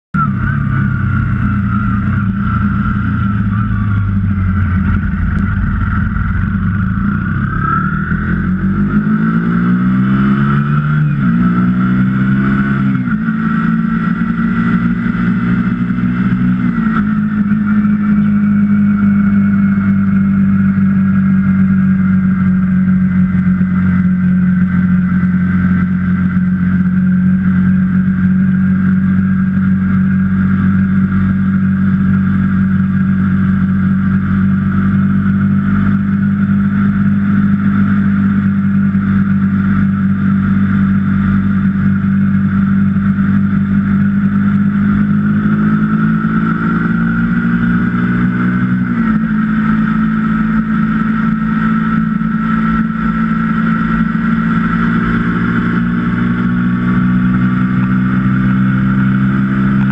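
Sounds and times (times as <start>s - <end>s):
motorcycle engine revving through gears: 0.2s - 59.9s.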